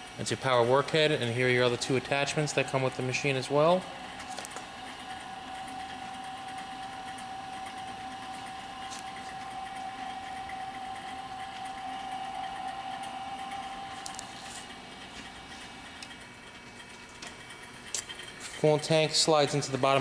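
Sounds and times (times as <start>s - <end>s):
grinder motor whine: 0.0s - 20.0s.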